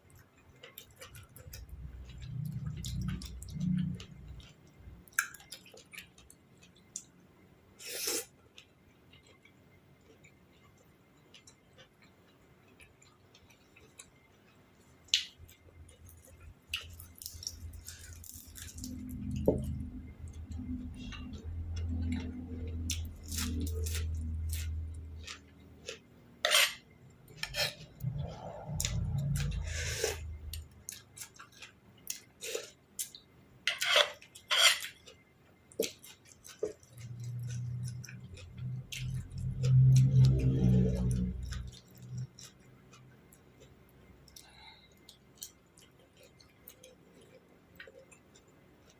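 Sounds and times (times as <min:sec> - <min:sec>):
muffled chewing: 0:00.0 - 0:07.1, 0:08.1 - 0:48.9.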